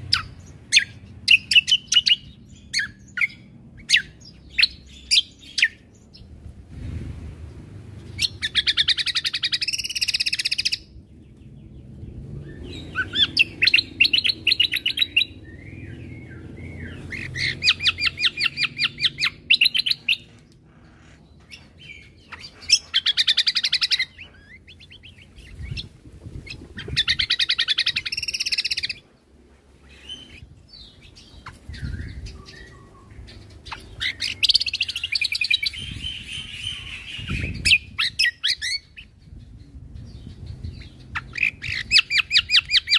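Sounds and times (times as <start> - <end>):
bird singing fast trills: 0.0 - 6.4, 8.1 - 29.1, 29.8 - 42.9
soft bird chirps: 7.4 - 42.9.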